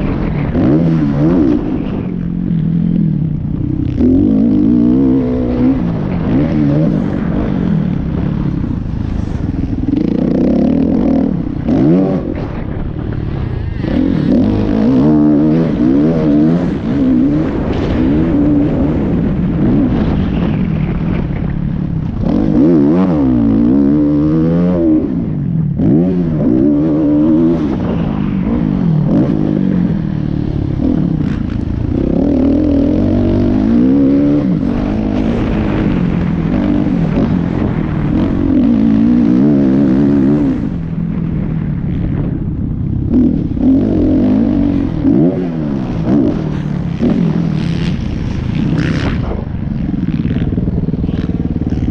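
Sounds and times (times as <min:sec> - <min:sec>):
dirt bike engines revving: 0:00.0 - 0:51.9.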